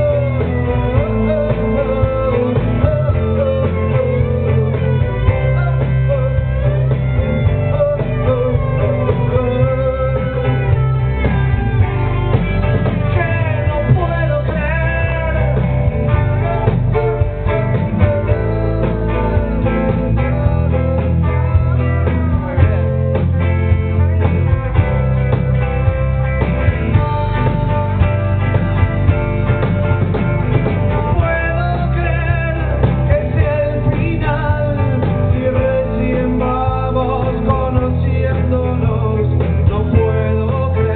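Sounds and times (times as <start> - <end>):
live rock band with singing: 0.0 - 40.9.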